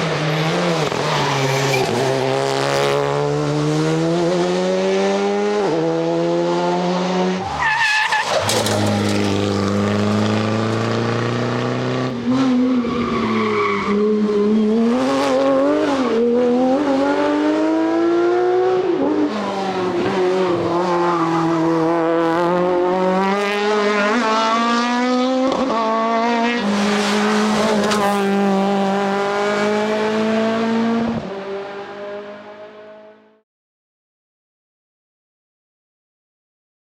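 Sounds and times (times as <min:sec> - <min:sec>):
rally car engines at full throttle: 0:00.0 - 0:33.4.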